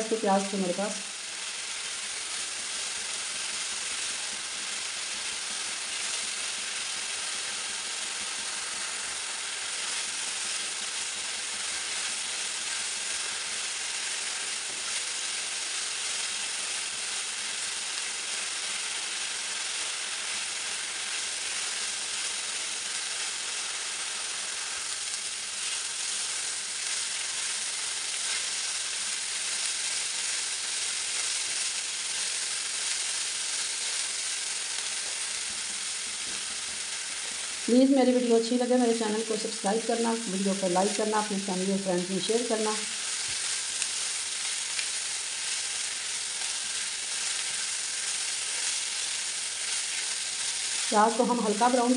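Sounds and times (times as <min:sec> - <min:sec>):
onions sizzling in hot oil: 0:00.0 - 0:51.9.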